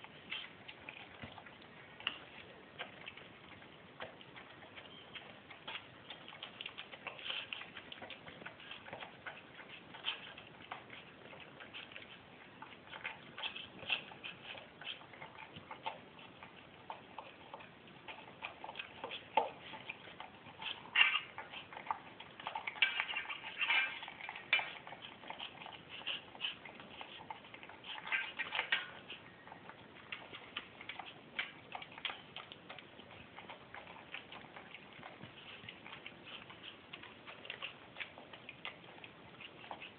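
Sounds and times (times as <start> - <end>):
dog eating from metal bowl: 0.0 - 39.9.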